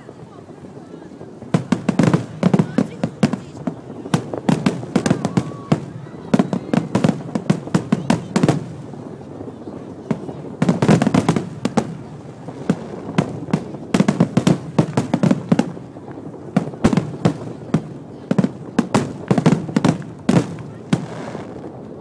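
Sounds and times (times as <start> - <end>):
fireworks and firecrackers banging: 0.0 - 22.0.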